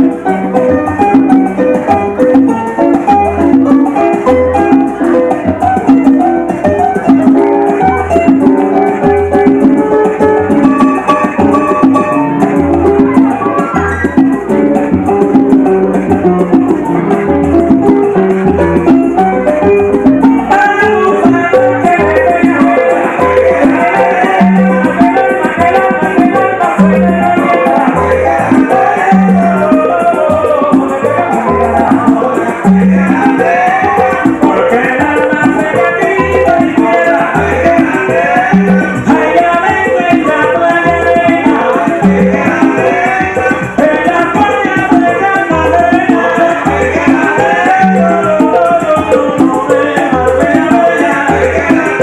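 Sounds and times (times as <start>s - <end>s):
bass line: 0.0s - 52.0s
latin dance music from vinyl: 0.0s - 52.0s
rattling shaker percussion: 0.0s - 52.0s.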